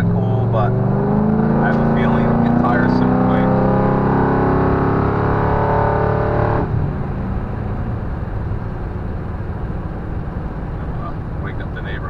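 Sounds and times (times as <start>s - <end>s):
car exhaust drone: 0.0s - 12.0s
road noise: 0.0s - 12.0s.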